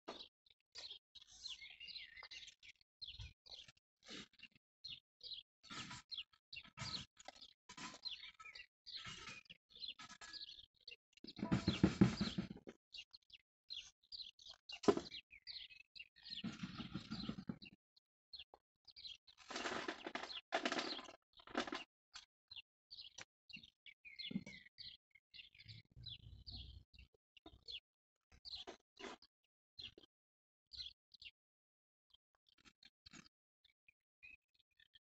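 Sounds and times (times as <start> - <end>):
small birds chirping: 0.1 - 31.4, 32.1 - 35.0.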